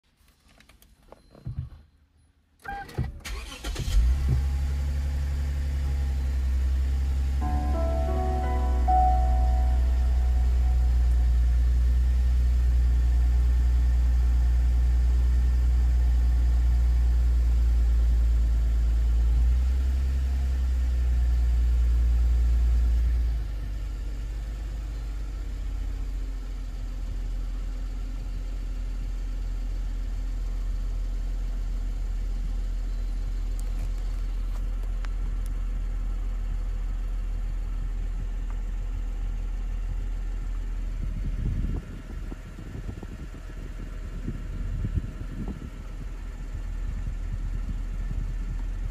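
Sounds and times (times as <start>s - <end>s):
car engine idling drone: 3.3s - 48.9s.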